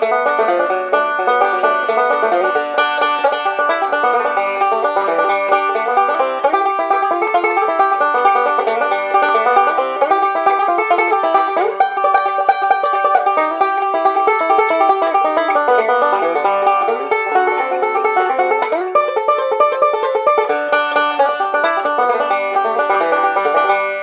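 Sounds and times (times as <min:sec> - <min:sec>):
banjo picking: 0:00.0 - 0:24.0.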